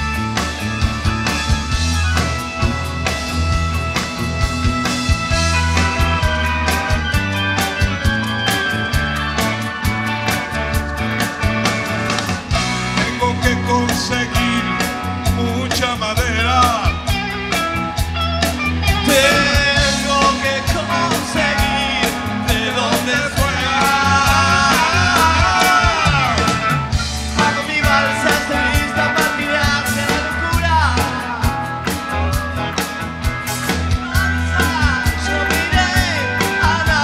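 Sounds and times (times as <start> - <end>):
bass: 0.0 - 37.0
drums: 0.0 - 37.0
lead electric guitar bending notes: 0.0 - 37.0
organ: 0.0 - 37.0.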